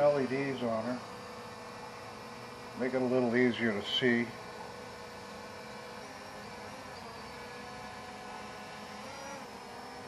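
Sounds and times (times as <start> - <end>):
quadcopter buzzing hum: 0.0 - 10.0.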